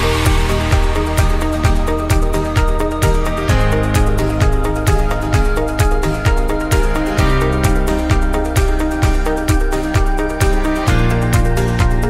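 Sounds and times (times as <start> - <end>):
kick drum beat: 0.0 - 12.0.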